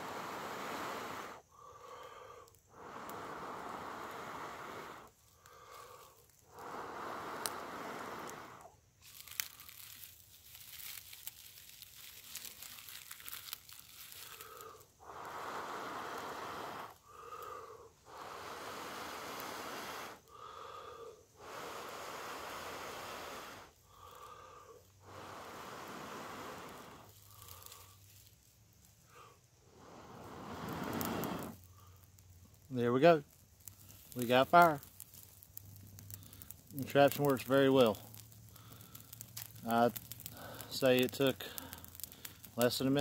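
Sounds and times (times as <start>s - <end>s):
person blowing long breaths: 0.0s - 10.0s, 12.4s - 28.2s, 29.0s - 32.3s, 35.1s - 36.8s, 38.0s - 40.8s, 41.4s - 42.6s
dry tinder crackling: 0.0s - 43.0s.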